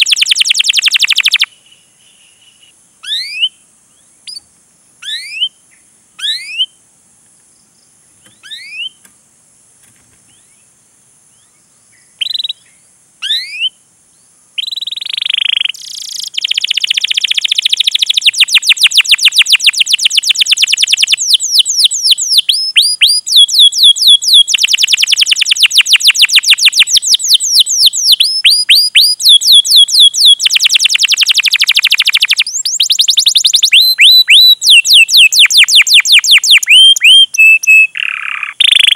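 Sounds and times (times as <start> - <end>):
canary singing: 0.0 - 6.8, 8.2 - 9.1, 11.4 - 13.8, 14.6 - 38.9.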